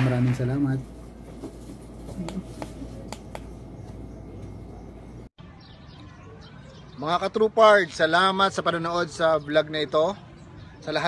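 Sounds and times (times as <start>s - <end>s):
faint outdoor ambience: 0.0s - 11.0s.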